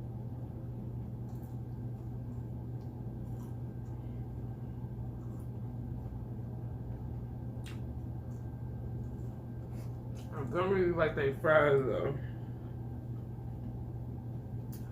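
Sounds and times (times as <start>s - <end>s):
low background hum: 0.0s - 14.9s.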